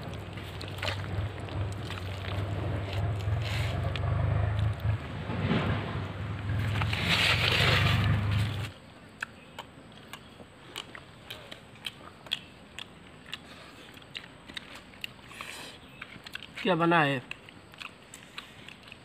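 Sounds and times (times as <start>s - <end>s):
crunching and chewing food: 0.0s - 5.2s, 6.4s - 19.0s.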